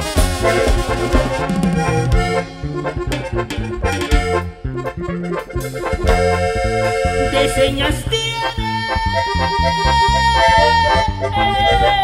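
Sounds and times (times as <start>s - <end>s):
live band instrumental: 0.0s - 12.0s.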